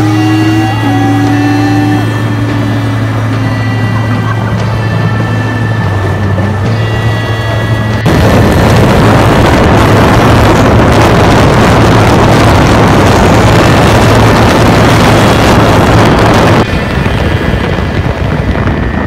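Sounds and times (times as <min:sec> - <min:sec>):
car engine drone: 0:00.0 - 0:19.0
wind buffeting microphone: 0:00.0 - 0:19.0.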